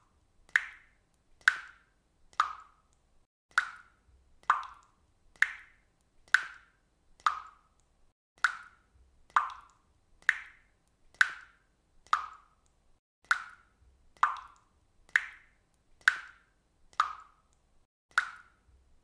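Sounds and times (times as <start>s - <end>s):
water dripping from faucet: 0.0s - 19.0s.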